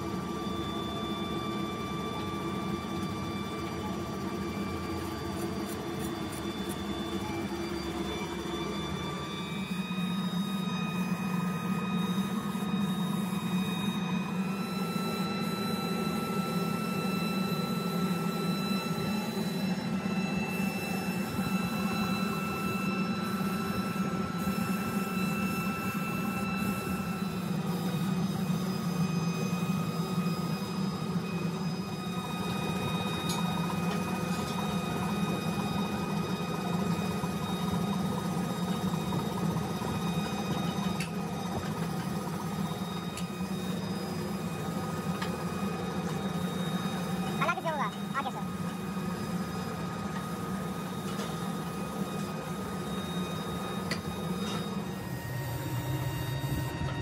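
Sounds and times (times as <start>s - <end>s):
workshop machinery hum: 0.0s - 57.0s.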